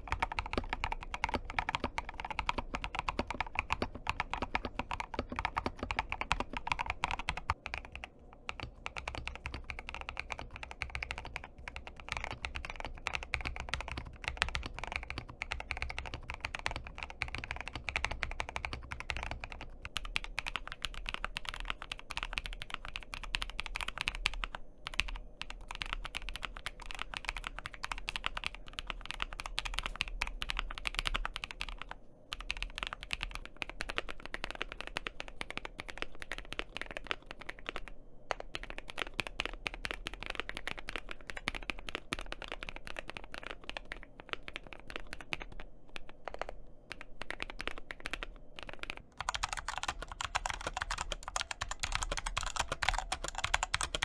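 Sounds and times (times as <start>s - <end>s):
bright loud keyboard keystrokes: 0.0s - 54.0s
mechanical keyboard typing: 0.0s - 54.0s.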